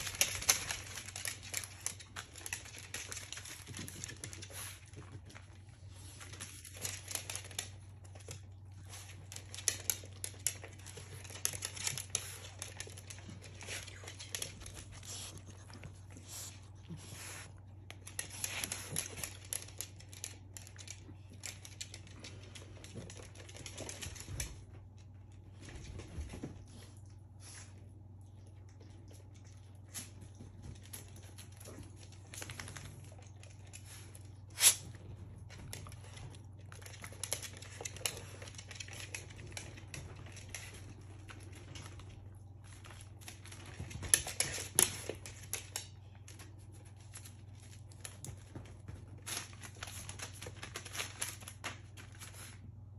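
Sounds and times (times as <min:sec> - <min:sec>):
puppy clicks and scratches: 0:00.0 - 0:52.9.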